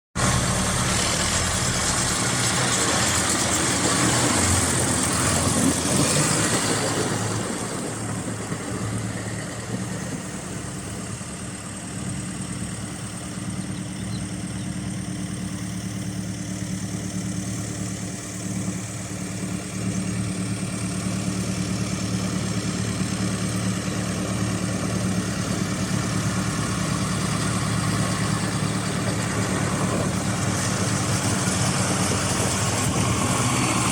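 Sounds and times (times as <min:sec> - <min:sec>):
tractor diesel engine idling: 0:00.2 - 0:33.9.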